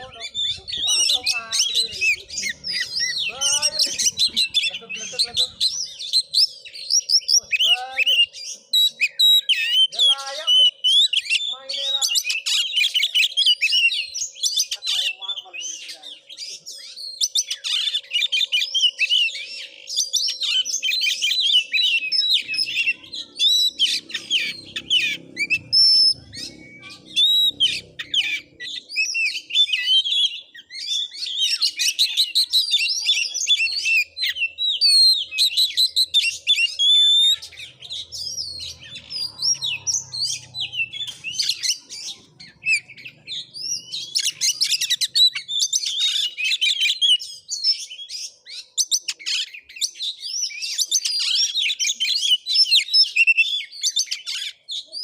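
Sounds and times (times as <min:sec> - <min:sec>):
birds singing chirps and whistles: 0:00.0 - 0:55.0.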